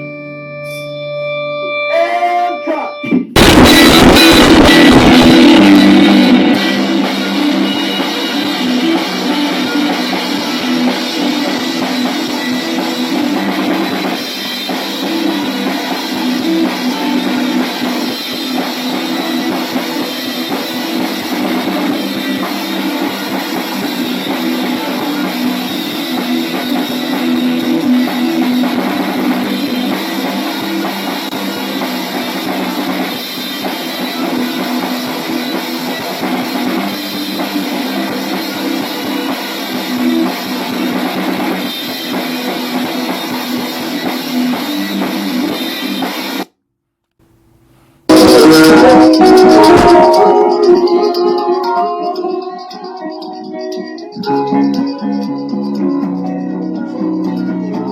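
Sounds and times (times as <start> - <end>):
guitar playing: 0.0 - 46.4, 48.1 - 57.9
drum kit: 1.9 - 46.5, 47.2 - 57.9.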